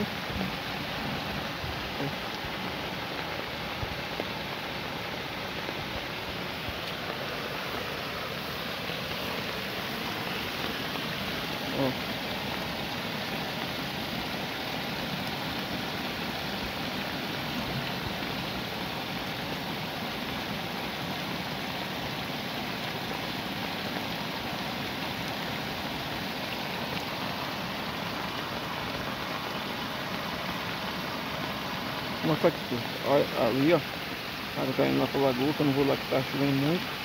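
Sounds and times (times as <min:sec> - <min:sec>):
heavy rain falling: 0:00.0 - 0:37.0
runoff water rushing: 0:00.0 - 0:37.0.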